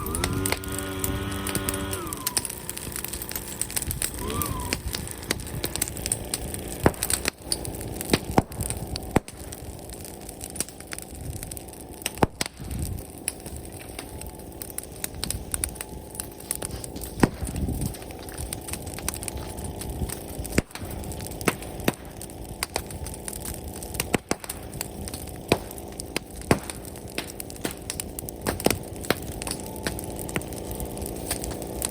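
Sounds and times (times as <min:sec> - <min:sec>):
bonfire crackling and popping: 0:00.0 - 0:31.9.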